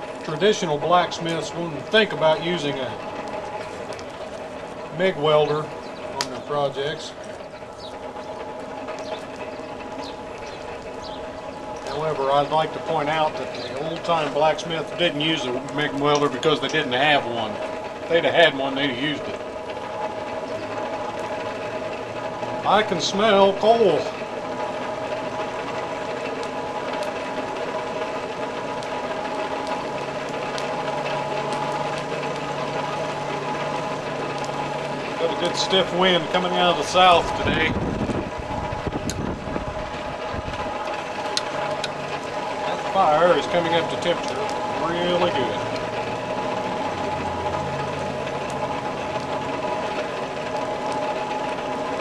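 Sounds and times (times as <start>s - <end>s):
air blower whirring: 0.0s - 52.0s
fire crackling pops: 0.0s - 52.0s.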